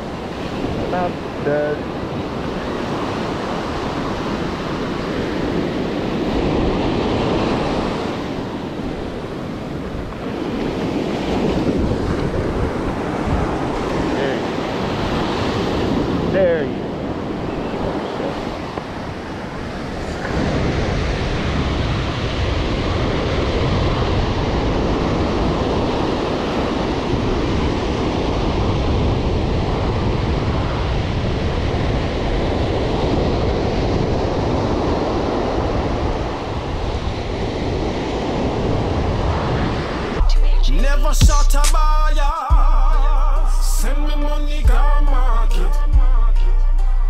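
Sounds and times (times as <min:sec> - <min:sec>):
wind buffeting microphone: 0:00.0 - 0:40.3
ocean surf breaking: 0:00.0 - 0:42.9.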